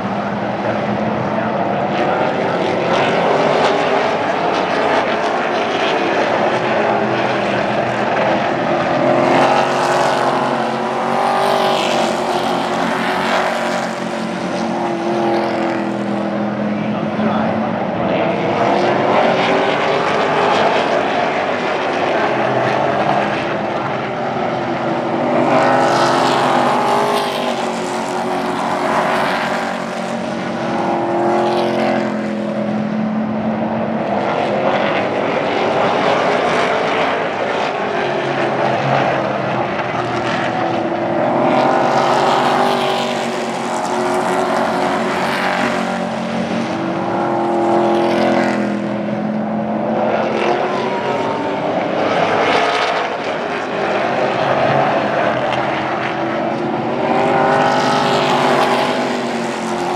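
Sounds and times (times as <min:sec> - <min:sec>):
race truck engines passing: 0:00.0 - 0:59.9.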